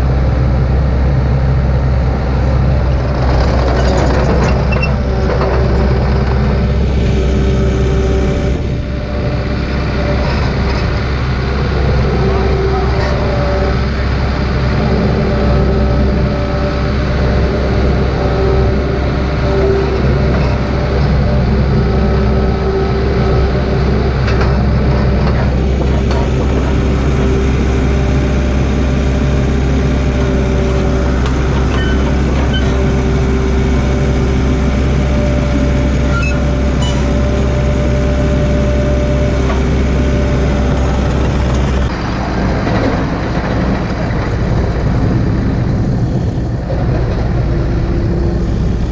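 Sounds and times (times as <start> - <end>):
excavator diesel engine running: 0.0 - 48.9
steady whine: 0.0 - 48.9.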